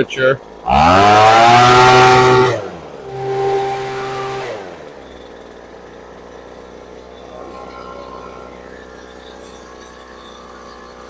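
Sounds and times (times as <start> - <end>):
leaf blower engine revving: 0.4 - 11.0.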